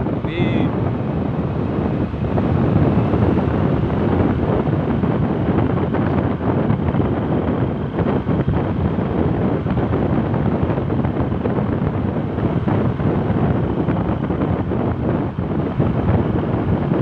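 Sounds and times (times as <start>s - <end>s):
road and engine rumble: 0.0s - 17.0s
wind buffeting microphone: 0.0s - 17.0s.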